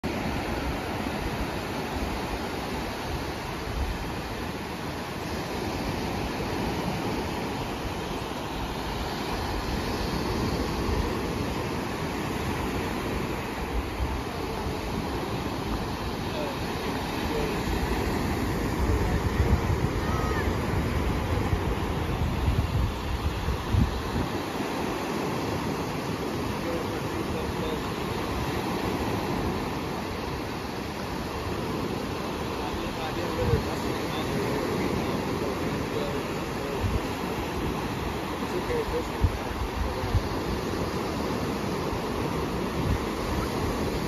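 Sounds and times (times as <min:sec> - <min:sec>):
small waves breaking on beach: 0:00.0 - 0:44.0
wind gusting on microphone: 0:00.0 - 0:44.0.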